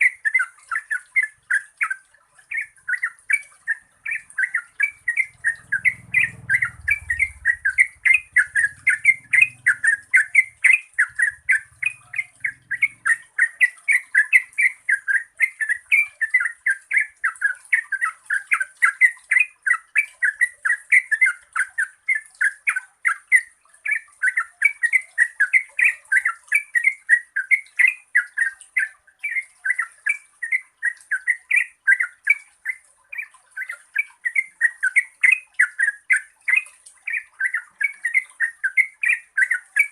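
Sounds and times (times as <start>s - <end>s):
bird singing warbled notes: 0.0s - 39.9s.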